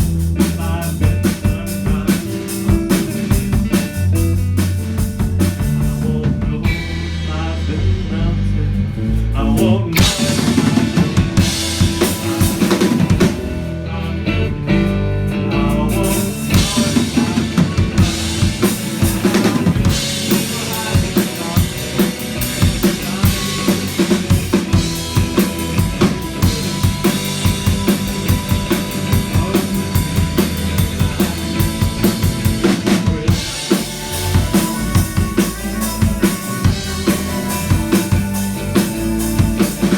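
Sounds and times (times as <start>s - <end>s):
live rock band playing: 0.0s - 7.9s, 10.0s - 39.9s
drum kit bass drum and snare: 0.0s - 13.8s, 15.7s - 39.9s.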